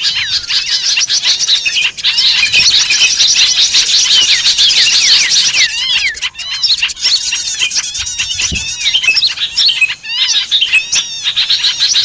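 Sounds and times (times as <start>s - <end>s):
small birds chirping together: 0.0s - 12.0s.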